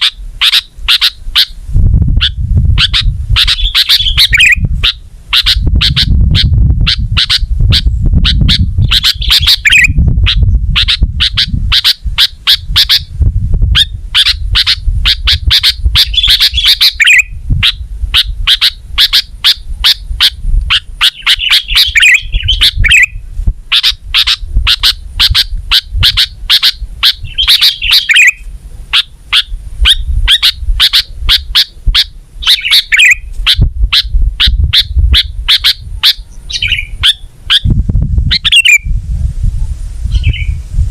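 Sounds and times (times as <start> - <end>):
bird chirping and warbling: 0.0 - 39.0, 40.1 - 40.6.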